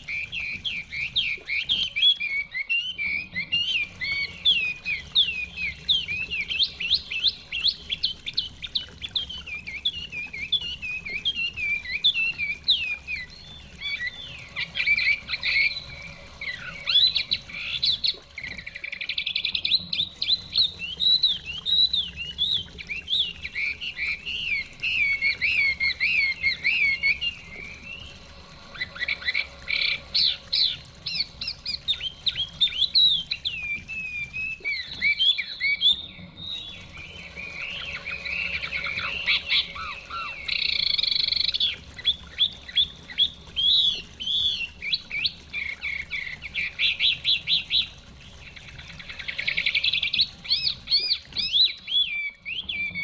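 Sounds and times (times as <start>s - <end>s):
bird singing whistled phrases: 0.0s - 53.0s.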